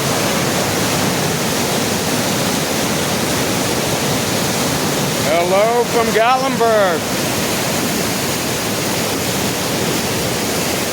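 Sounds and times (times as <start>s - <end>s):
fast-flowing river water rushing: 0.0s - 10.9s.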